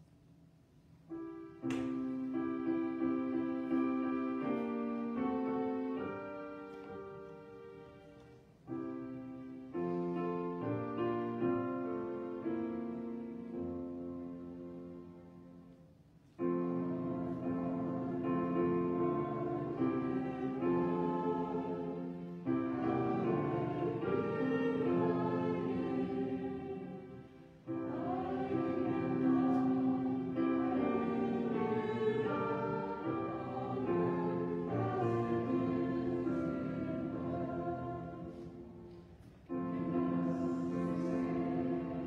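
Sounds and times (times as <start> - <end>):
slow choral church music: 0.0 - 42.0.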